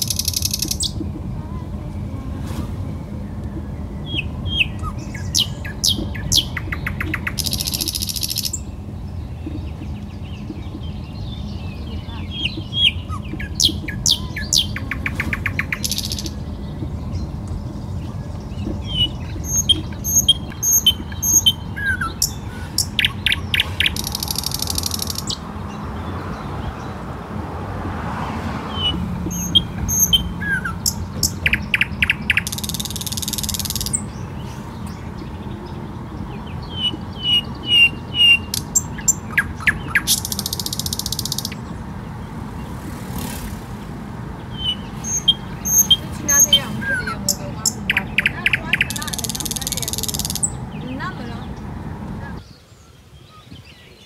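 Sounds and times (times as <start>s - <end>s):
car driving rumble: 0.0s - 52.5s
small birds chirping: 0.0s - 54.0s.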